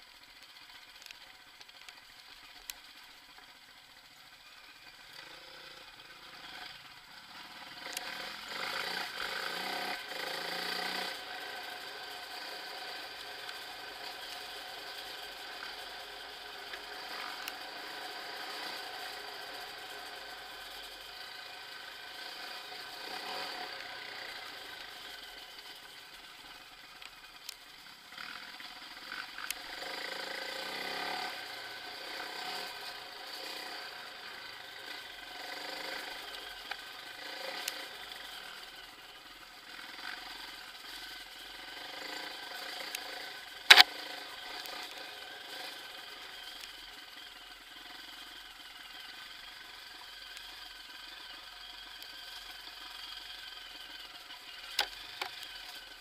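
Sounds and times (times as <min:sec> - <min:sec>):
bike freewheel hub whirring: 0:00.0 - 0:56.0.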